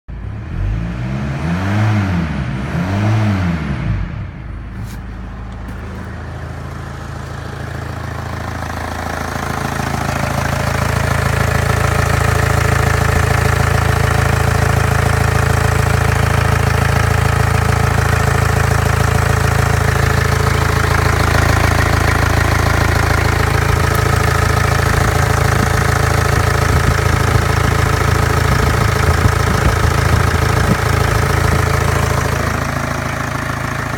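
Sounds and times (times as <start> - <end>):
diesel engine revving and idling: 0.1 - 33.9.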